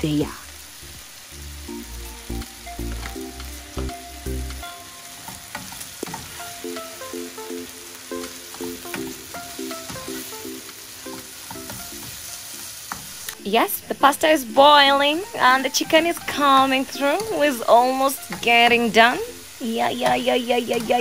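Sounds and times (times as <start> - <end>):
background music: 0.0 - 21.0
food sizzling in a frying pan: 0.0 - 21.0.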